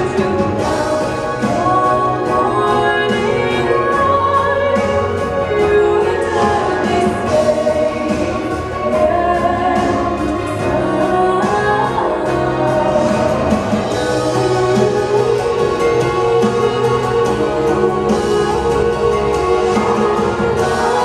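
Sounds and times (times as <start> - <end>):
sustained musical accompaniment: 0.0 - 21.0.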